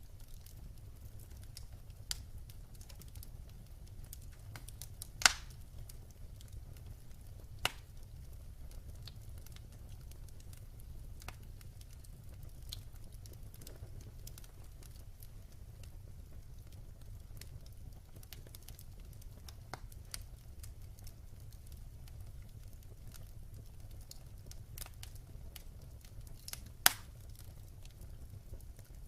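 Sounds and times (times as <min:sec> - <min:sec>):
wood fire crackling: 0:00.0 - 0:29.0
sharp pops of burning wood: 0:00.3 - 0:03.3, 0:04.0 - 0:10.6, 0:11.2 - 0:29.0.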